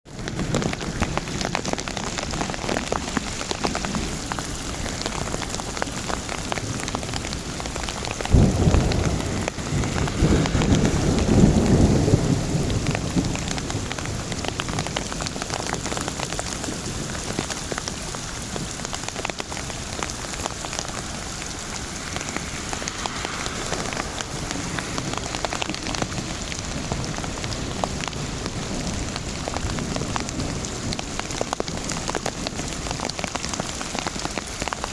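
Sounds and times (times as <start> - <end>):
thunderclap rumbling: 0.1 - 34.6
rain falling: 0.1 - 34.9
raindrops tapping close by: 0.1 - 34.9.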